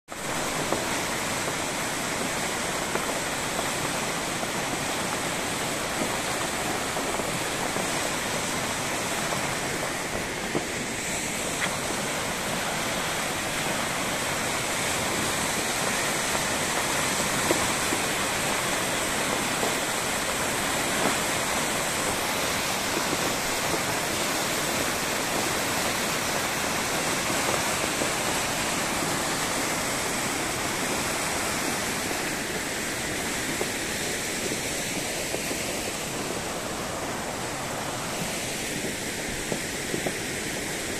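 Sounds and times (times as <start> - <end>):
stream rushing: 0.1 - 40.9.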